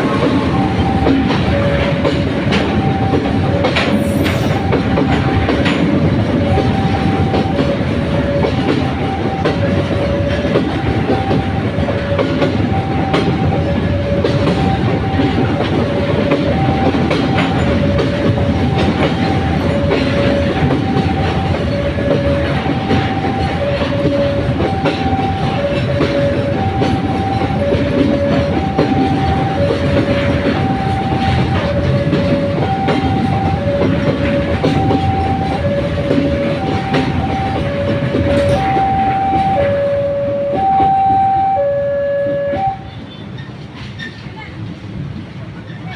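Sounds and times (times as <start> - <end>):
wheels clacking over rail joints: 0.0 - 41.0
two-tone crossing alarm: 0.0 - 43.1
freight train rumbling past: 0.0 - 45.9.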